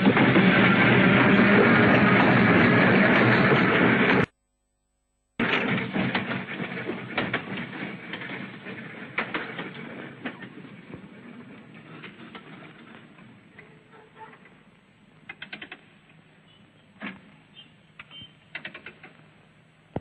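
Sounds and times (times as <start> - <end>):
tram wheels clattering on track: 0.0 - 4.3, 5.4 - 16.2, 17.0 - 19.3.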